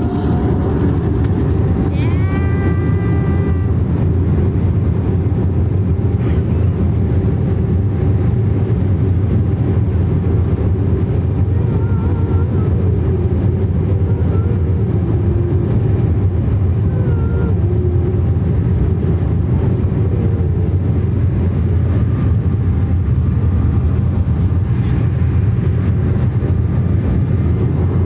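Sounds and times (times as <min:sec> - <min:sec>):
airliner engine rumble in cabin: 0:00.0 - 0:28.0.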